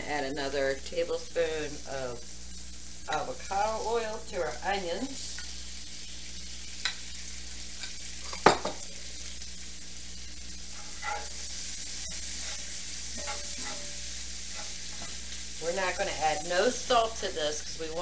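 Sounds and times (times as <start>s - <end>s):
onions sizzling in a skillet: 0.0s - 18.0s.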